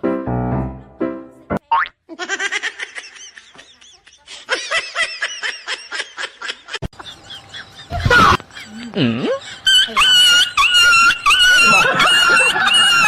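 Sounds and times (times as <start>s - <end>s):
high-pitched giggling: 2.1s - 13.0s.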